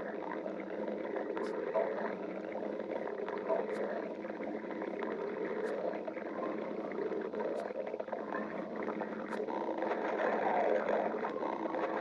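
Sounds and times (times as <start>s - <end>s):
stomach growling: 0.0s - 12.0s.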